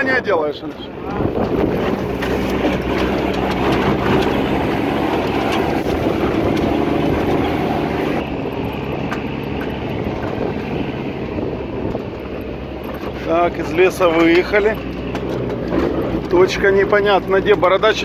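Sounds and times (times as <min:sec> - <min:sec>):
diesel engine running: 0:00.0 - 0:18.0
knocks and rattles from cargo bed: 0:00.5 - 0:18.0.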